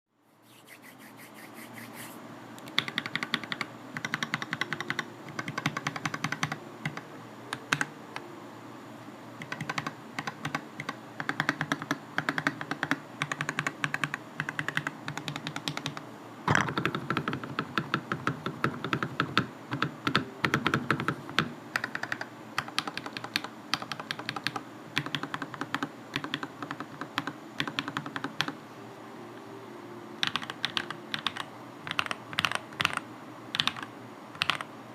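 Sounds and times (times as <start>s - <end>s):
mechanical keyboard typing: 2.6s - 7.9s, 9.4s - 28.6s, 30.2s - 34.7s.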